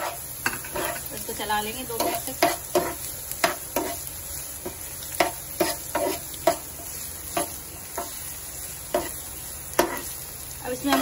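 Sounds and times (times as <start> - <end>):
spoon scraping against pan: 0.0 - 10.2, 10.8 - 11.0
potatoes sizzling in a frying pan: 0.0 - 11.0.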